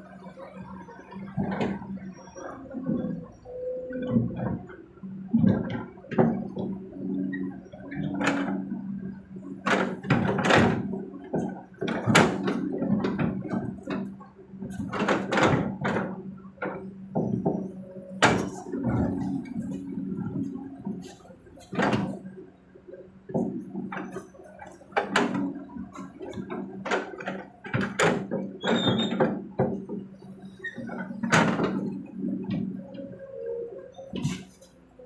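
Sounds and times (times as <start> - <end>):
excavator diesel engine running: 0.0 - 35.0
sharp knocks and clatter: 4.0 - 32.8.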